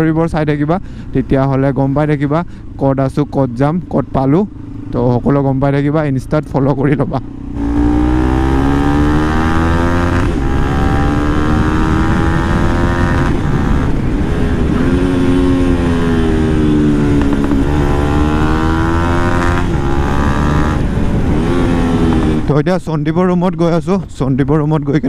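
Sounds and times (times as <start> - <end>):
motorcycle engine running: 0.7 - 24.2.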